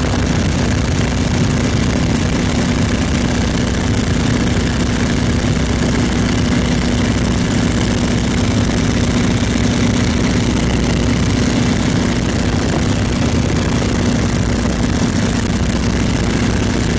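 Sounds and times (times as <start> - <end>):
biplane engine and propeller drone: 0.0 - 16.9.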